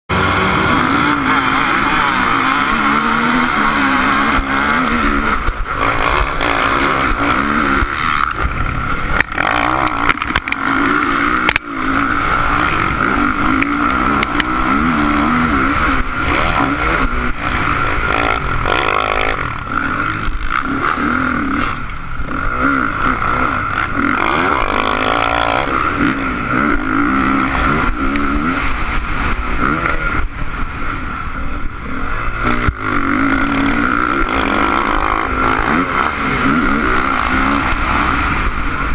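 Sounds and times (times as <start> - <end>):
motocross bike engine revving: 0.1 - 38.9.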